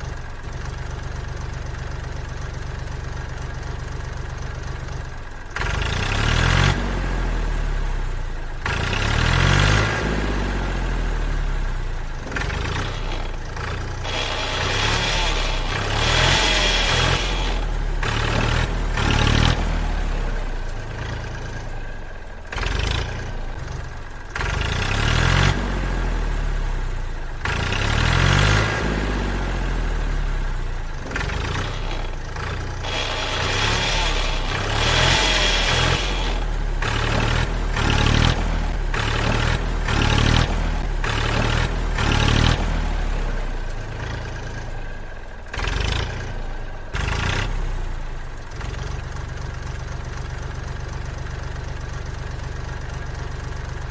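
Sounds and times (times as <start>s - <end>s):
tractor engine idling and revving: 0.0s - 53.9s.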